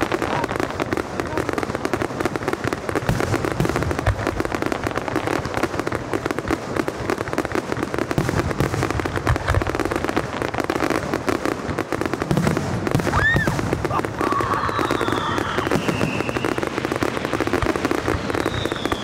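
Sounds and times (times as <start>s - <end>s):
deep firework booms: 0.0s - 19.0s
fireworks crackling bangs: 0.0s - 19.0s.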